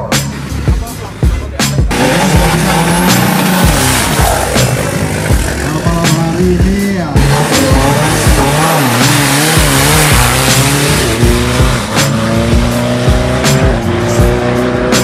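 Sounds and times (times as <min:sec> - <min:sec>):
diesel truck engine revving: 0:01.9 - 0:15.0.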